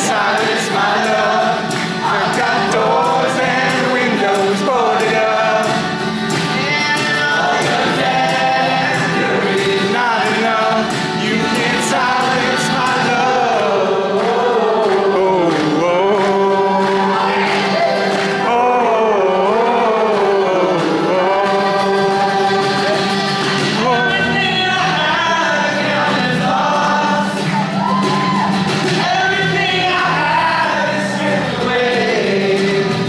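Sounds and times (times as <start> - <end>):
acoustic guitar: 0.0 - 33.0
men singing in harmony: 0.0 - 33.0.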